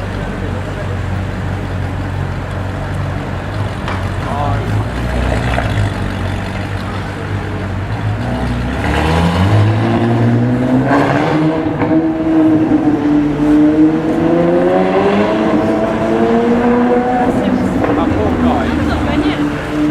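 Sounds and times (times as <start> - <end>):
sports car engine idling and accelerating: 0.0 - 19.9.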